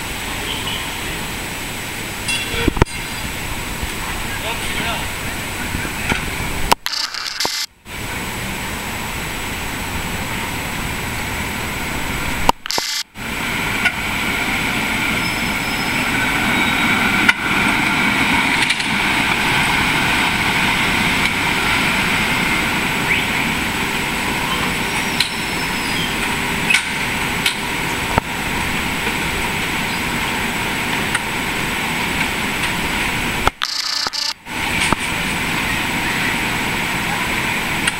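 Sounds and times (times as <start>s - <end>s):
streetcar running on rails: 0.0s - 7.1s, 7.7s - 37.9s.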